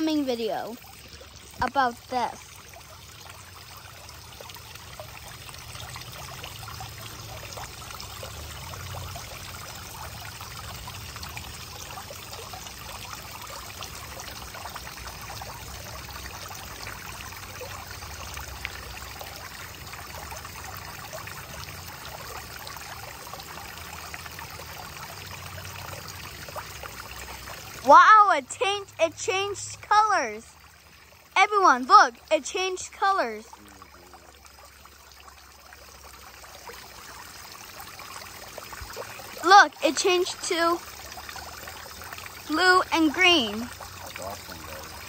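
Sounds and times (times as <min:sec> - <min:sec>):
fountain water splashing: 0:00.0 - 0:45.0.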